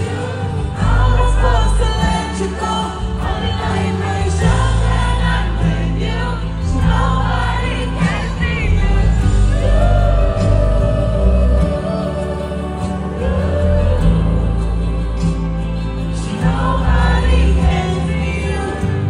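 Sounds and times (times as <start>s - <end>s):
band playing pop ballad: 0.0s - 19.0s
woman singing into microphone: 0.0s - 19.0s.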